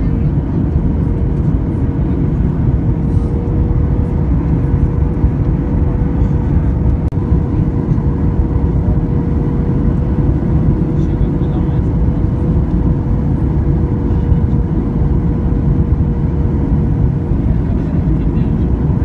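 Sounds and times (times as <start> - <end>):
airplane cabin rumble: 0.0 - 19.0
steady engine hum: 0.0 - 19.0.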